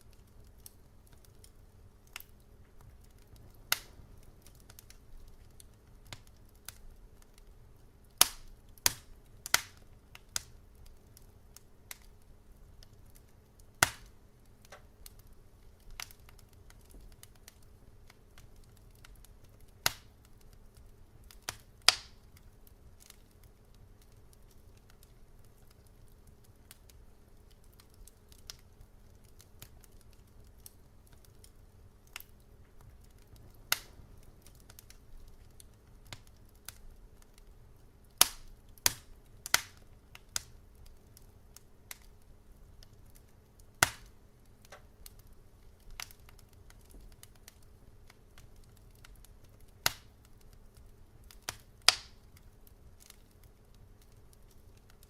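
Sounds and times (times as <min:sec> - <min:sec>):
faint steady low hum: 0:00.0 - 0:55.0
wood fire crackling: 0:00.0 - 0:55.0.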